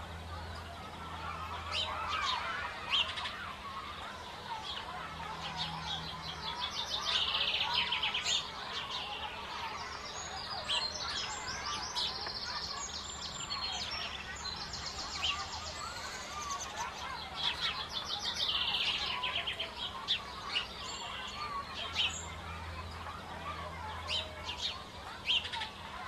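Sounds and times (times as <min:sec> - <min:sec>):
small birds chirping and trilling: 0:00.0 - 0:26.0.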